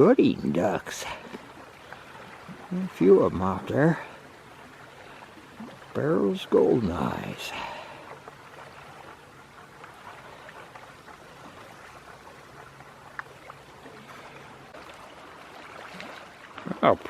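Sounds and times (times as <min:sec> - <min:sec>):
shoreline water rushing: 0:00.0 - 0:17.0.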